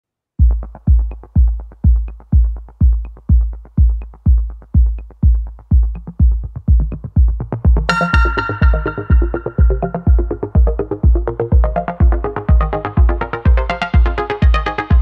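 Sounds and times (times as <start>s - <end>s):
deep kick drum: 0.4s - 15.0s
electronic music: 0.4s - 15.0s.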